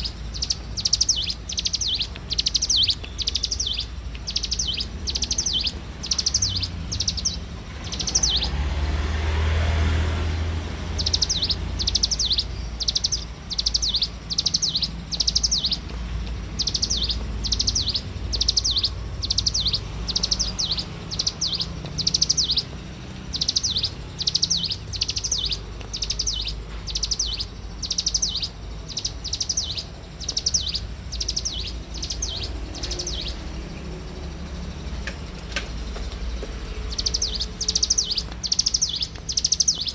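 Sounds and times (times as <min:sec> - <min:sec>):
bird singing sharp high notes: 0:00.0 - 0:35.0, 0:36.6 - 0:39.9.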